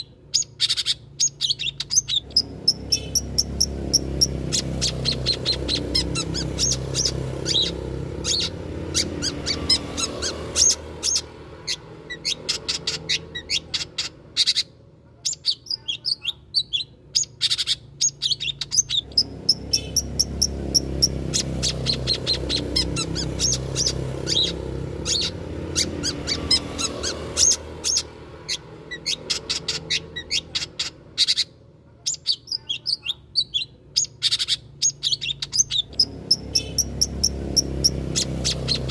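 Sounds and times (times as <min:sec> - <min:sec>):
shrike chips and chatters: 0:00.0 - 0:38.9.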